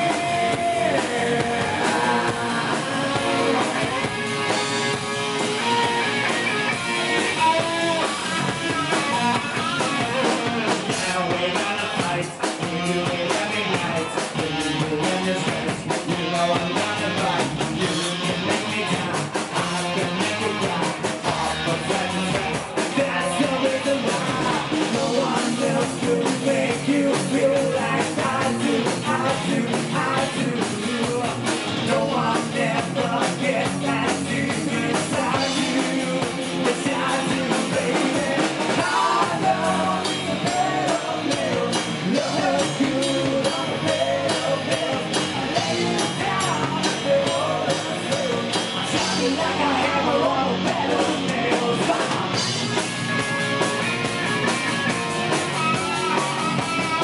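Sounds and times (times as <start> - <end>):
man singing: 0.0 - 6.1, 6.9 - 52.6
bass guitar: 0.0 - 57.0
distorted electric guitars: 0.0 - 57.0
drums: 0.0 - 57.0.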